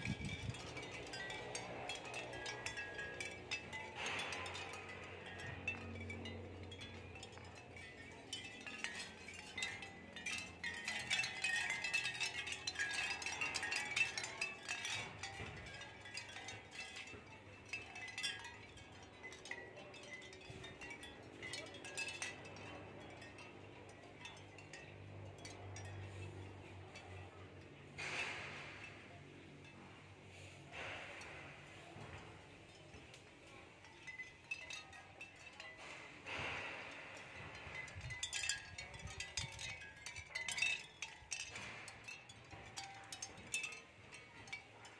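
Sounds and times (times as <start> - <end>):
shell wind chime clinking: 0.0 - 44.9.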